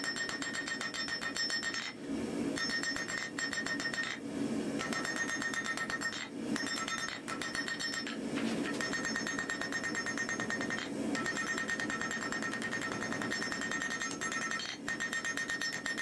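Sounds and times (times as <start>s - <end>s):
hammer striking steel on anvil: 0.0s - 1.9s, 2.6s - 4.2s, 4.8s - 16.0s.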